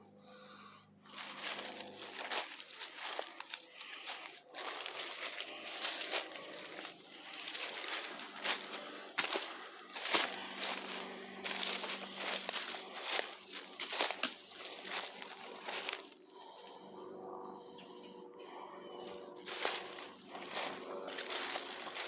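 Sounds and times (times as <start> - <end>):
footsteps crunching through dry leaves: 0.4 - 16.8, 18.4 - 22.0.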